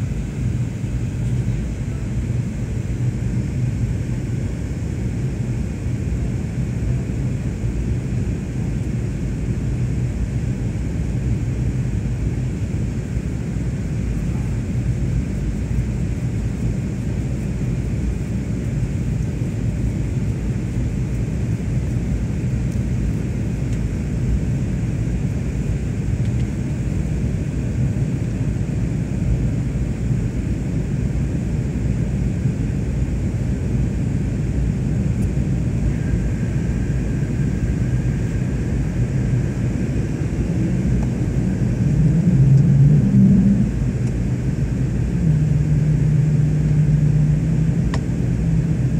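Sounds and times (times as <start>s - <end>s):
airliner engine rumble: 0.0s - 48.9s.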